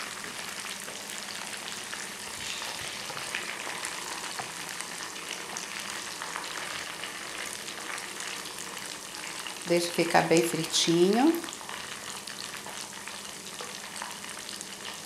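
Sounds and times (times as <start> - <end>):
meatballs deep-frying in oil: 0.0 - 15.0.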